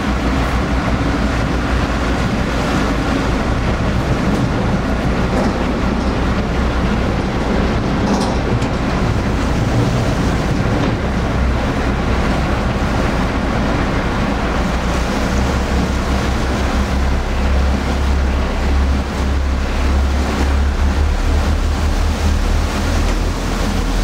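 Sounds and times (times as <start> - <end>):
low engine drone: 0.0 - 24.0
water rushing along hull: 0.0 - 24.0
wind buffeting microphone: 0.0 - 24.0.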